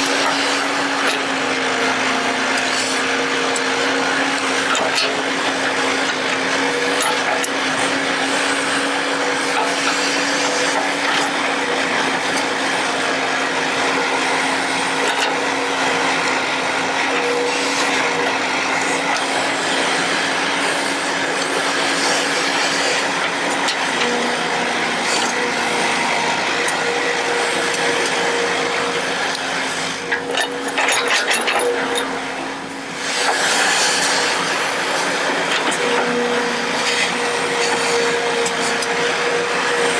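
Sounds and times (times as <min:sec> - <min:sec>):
excavator running: 0:00.0 - 0:39.9.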